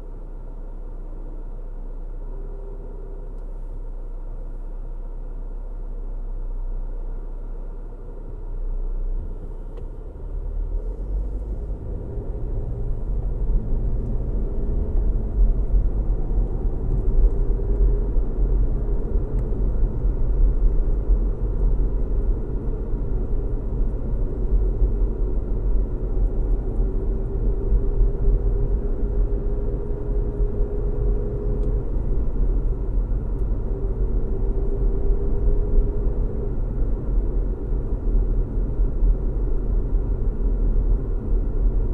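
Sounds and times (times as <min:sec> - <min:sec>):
car tyres and engine rumbling: 0:00.0 - 0:41.9.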